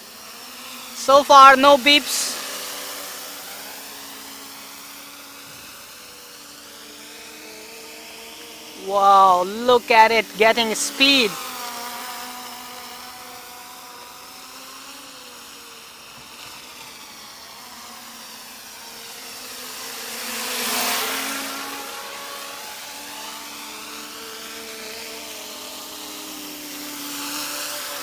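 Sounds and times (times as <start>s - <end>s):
quadcopter propellers whining: 0.0s - 28.0s.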